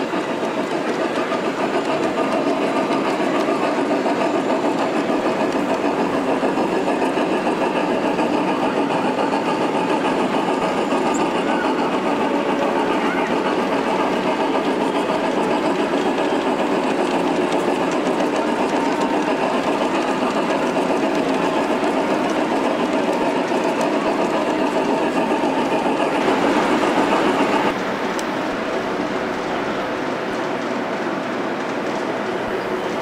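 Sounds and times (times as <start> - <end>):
model train clatter: 0.0 - 33.0.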